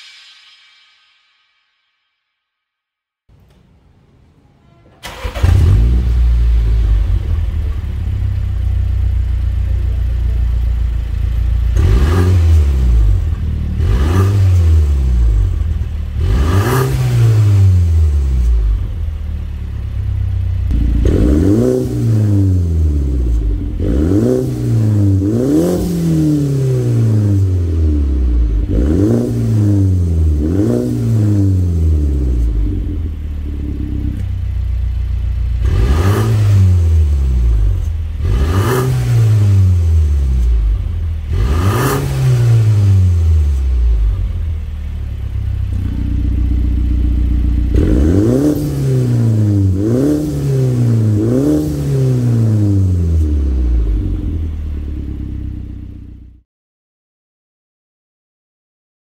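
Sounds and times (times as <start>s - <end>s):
car exhaust idling: 3.3s - 16.8s, 17.4s - 38.7s, 39.6s - 56.2s
car engine starting: 3.3s - 56.4s
car engine revving in blips: 5.0s - 56.0s.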